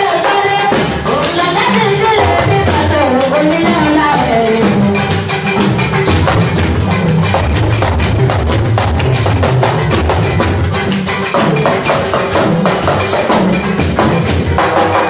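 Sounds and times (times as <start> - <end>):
band music with drums and bass: 0.0 - 15.0.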